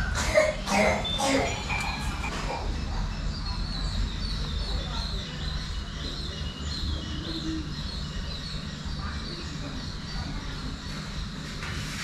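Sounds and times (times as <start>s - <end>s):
steady low hum: 0.0s - 12.0s
small birds chirping: 0.8s - 12.0s.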